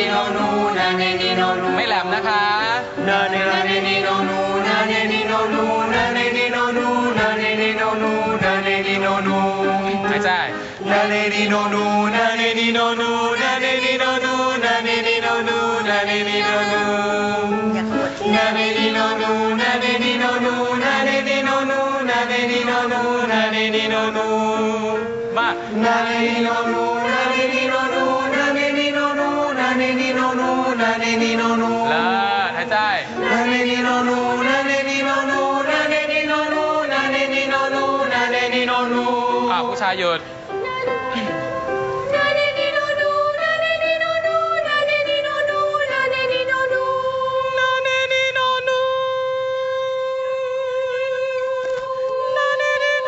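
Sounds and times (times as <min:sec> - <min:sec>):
stepped keyboard notes: 0:00.0 - 0:43.8
group singing vocal warm-up: 0:00.0 - 0:53.0.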